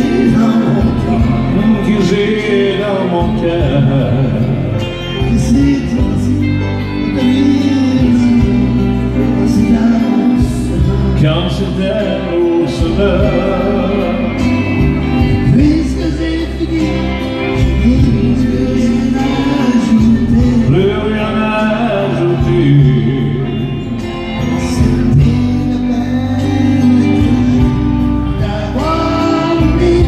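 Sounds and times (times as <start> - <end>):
man singing into a microphone: 0.0 - 30.0
recorded band backing track: 0.0 - 30.0.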